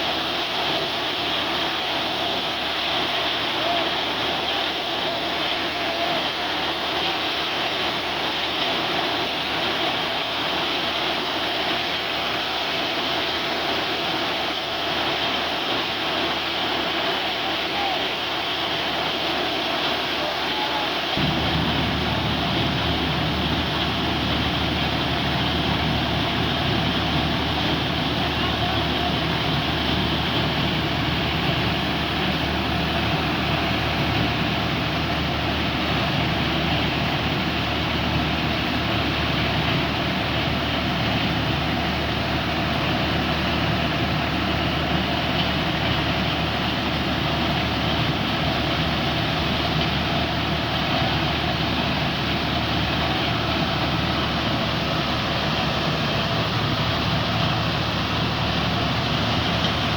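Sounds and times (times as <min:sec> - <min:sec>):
corn sheller mechanical rush: 0:00.0 - 0:59.9
tractor engine hum: 0:00.0 - 0:59.9.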